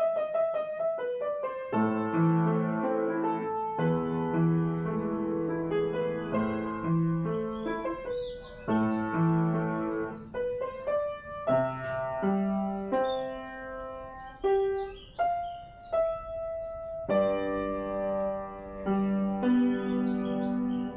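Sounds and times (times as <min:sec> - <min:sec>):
slow solo piano music: 0:00.0 - 0:20.9.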